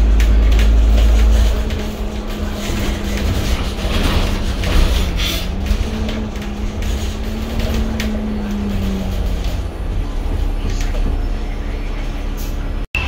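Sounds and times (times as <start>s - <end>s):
bus engine drone: 0.0s - 13.0s
road rumble: 0.0s - 13.0s.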